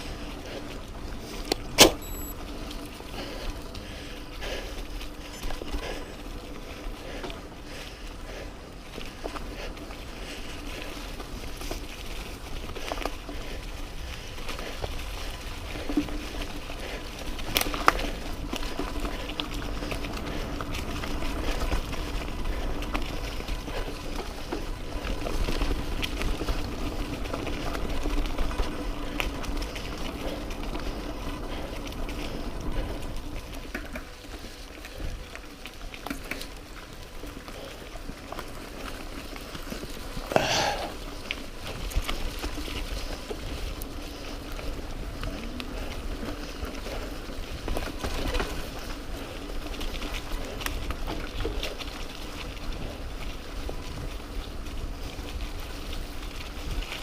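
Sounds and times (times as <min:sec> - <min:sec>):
bike tyres rumbling over rough ground: 0:00.0 - 0:57.0.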